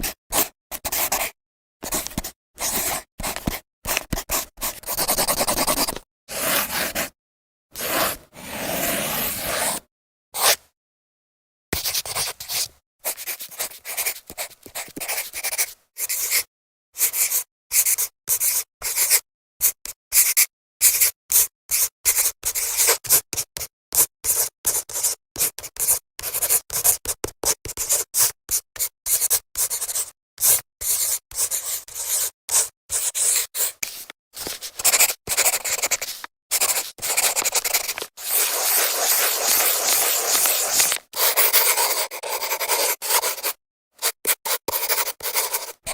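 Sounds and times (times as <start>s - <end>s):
marker scraping on whiteboard: 0.3s - 7.1s, 7.8s - 9.8s, 10.4s - 10.6s, 11.8s - 19.1s, 24.3s - 45.9s.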